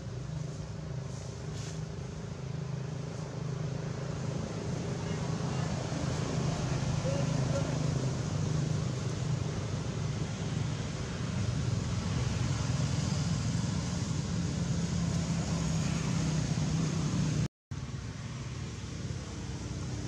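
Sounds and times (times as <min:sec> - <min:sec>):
background motor traffic: 0:00.0 - 0:20.0.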